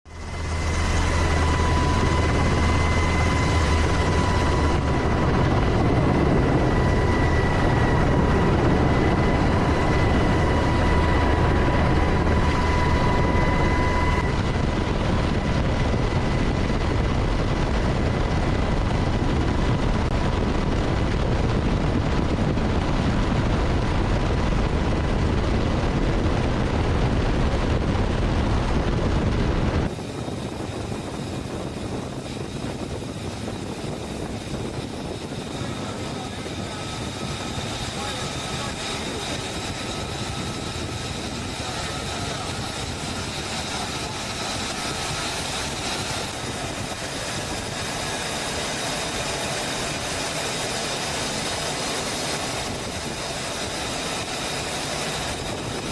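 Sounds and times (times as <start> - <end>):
fighter jet engine rush: 0.1 - 55.9
high jet whine: 0.1 - 55.9.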